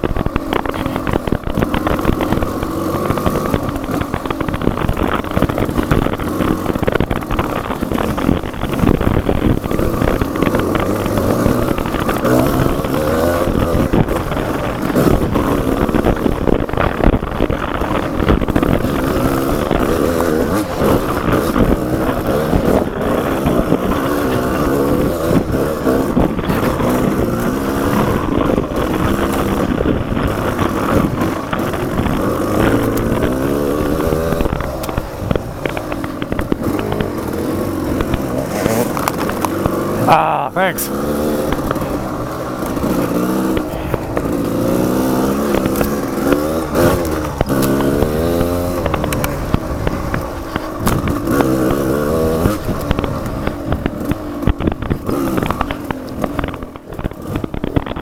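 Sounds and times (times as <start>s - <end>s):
motorcycle knocks and rattles: 0.0s - 58.0s
off-road motorcycle engine revving: 0.0s - 58.0s.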